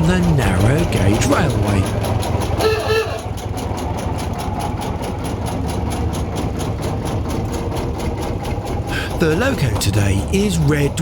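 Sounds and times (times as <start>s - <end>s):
locomotive engine idling: 0.0s - 11.0s.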